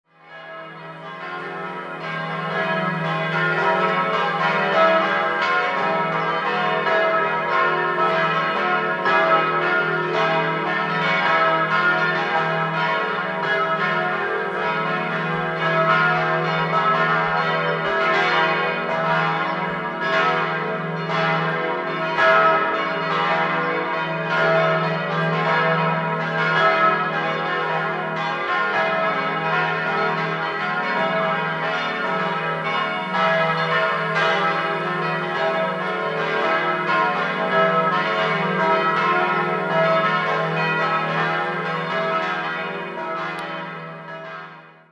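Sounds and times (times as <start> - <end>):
church bells pealing: 0.2 - 44.9.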